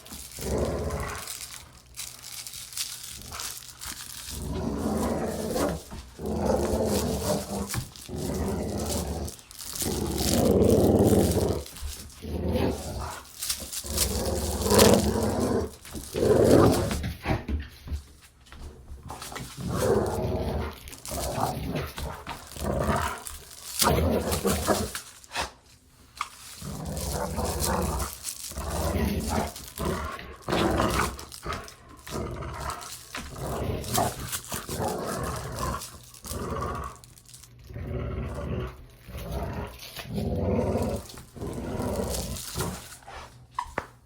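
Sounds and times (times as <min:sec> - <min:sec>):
dog growling: 0:00.0 - 0:17.5, 0:19.1 - 0:25.5, 0:26.5 - 0:43.3.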